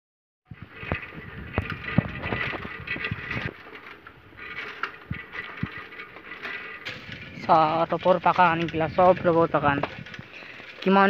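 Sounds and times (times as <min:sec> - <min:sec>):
bicycle rattling on dirt track: 0:00.5 - 0:11.0.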